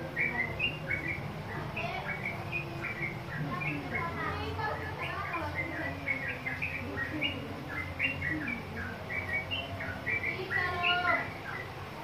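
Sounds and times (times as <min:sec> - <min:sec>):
bird chirping song: 0:00.0 - 0:12.0.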